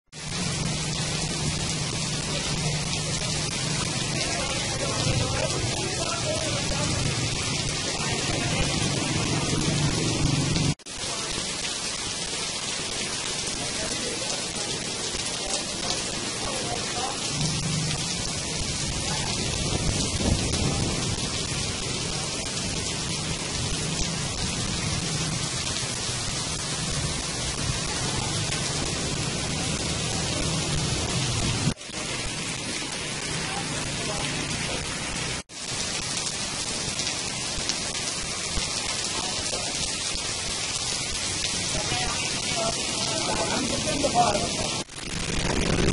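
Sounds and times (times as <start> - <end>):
heavy rain on street: 0.0 - 45.9
water running off roof: 0.1 - 45.9.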